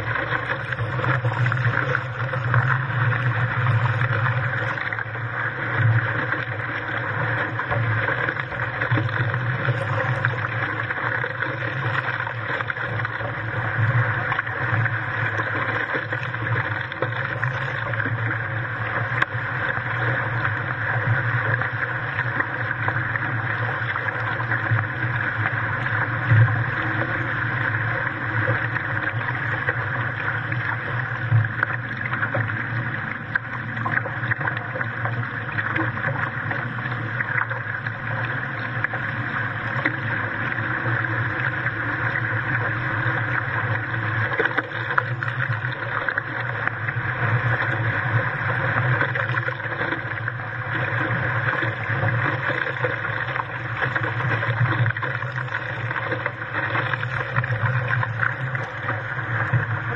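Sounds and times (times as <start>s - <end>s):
water rushing past hull: 0.0s - 59.9s.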